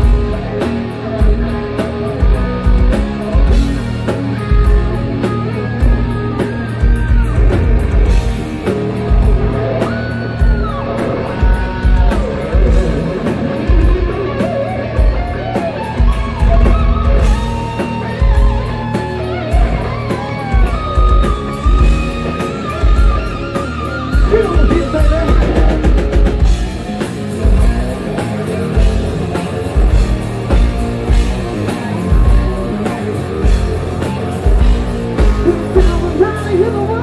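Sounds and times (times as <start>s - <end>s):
bass guitar: 0.0s - 37.0s
distorted electric guitar: 0.0s - 37.0s.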